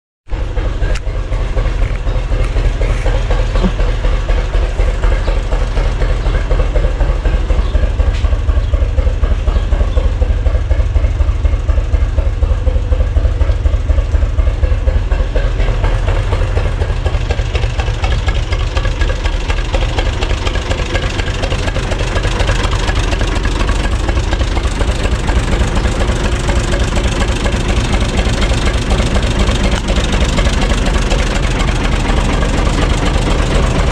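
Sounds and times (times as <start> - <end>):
tractor diesel engine idling: 0.3 - 33.9.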